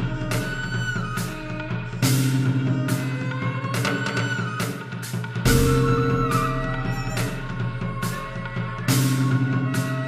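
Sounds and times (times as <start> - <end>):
drums and cymbal crashes: 0.0 - 10.0
instrumental music: 0.0 - 10.0.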